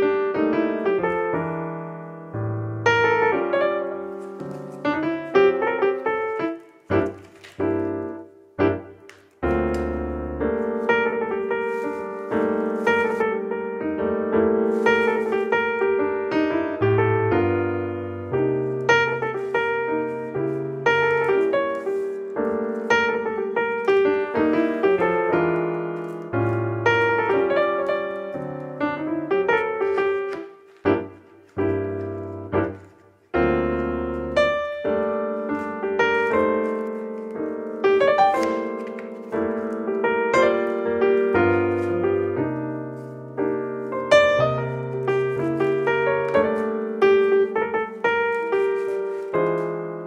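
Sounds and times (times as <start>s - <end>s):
piano music: 0.0s - 50.0s.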